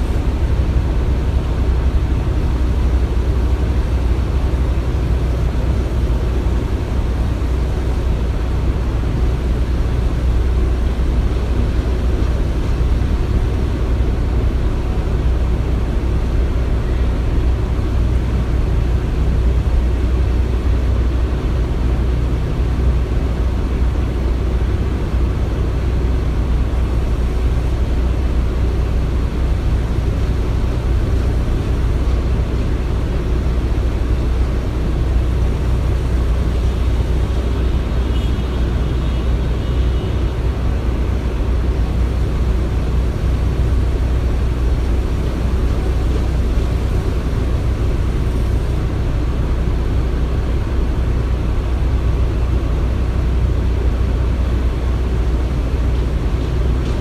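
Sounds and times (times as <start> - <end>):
heavy machinery rumbling: 0.0 - 57.0.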